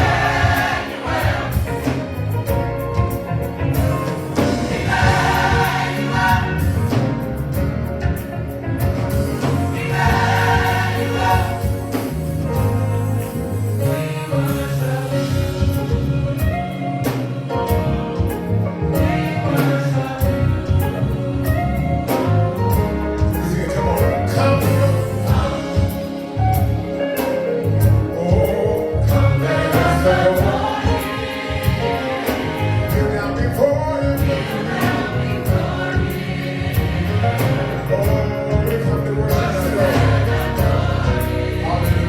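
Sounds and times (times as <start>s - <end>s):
band accompaniment with bass: 0.0s - 42.0s
gospel choir singing: 0.0s - 42.0s.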